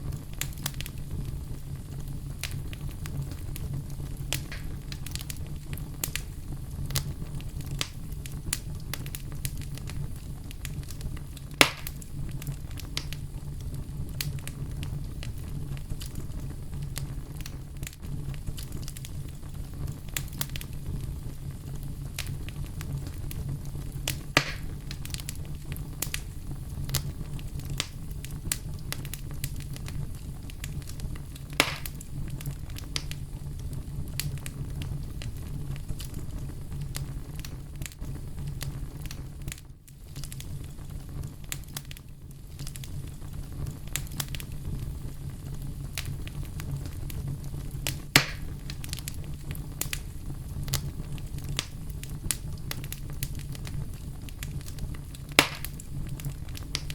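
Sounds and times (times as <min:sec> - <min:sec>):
campfire crackling: 0:00.0 - 0:56.9
fire low rumble: 0:00.0 - 0:56.9
loud fire pops: 0:00.0 - 0:56.9.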